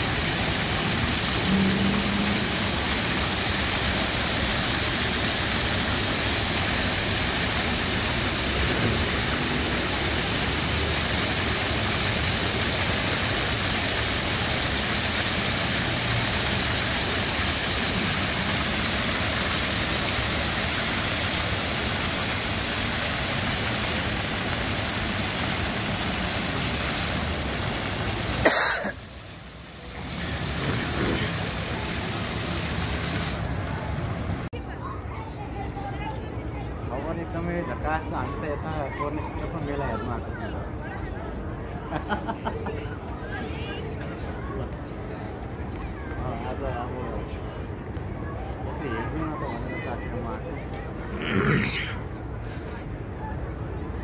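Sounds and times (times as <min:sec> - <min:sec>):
fountain jets splashing: 0:00.0 - 0:34.6, 0:37.2 - 0:54.0.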